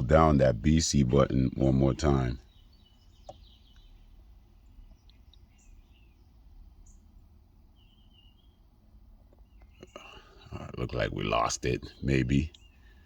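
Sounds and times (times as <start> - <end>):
faint bird chirps: 0.0 - 13.0
low room rumble: 0.0 - 13.0.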